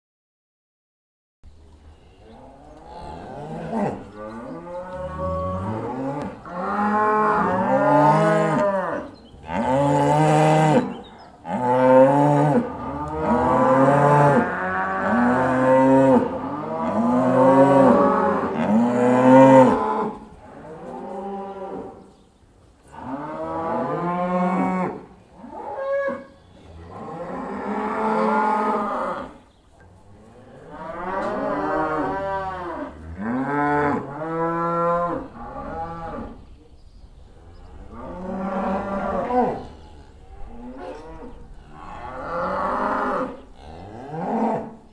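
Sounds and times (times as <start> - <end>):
cows mooing: 1.8 - 22.0, 22.9 - 36.6, 37.4 - 44.9.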